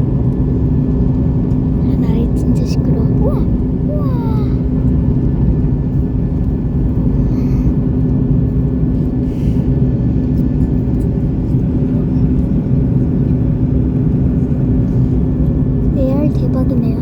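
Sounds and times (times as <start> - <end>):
airliner engines droning: 0.0 - 17.0.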